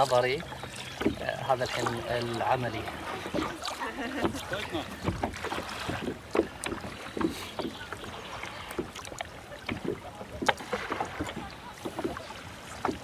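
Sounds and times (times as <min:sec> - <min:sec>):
paddle splashing on water: 0:00.0 - 0:13.0.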